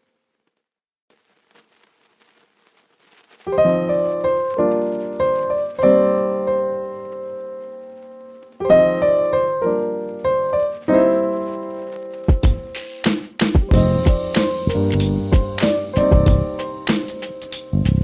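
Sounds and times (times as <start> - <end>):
piano chords: 3.5 - 18.0.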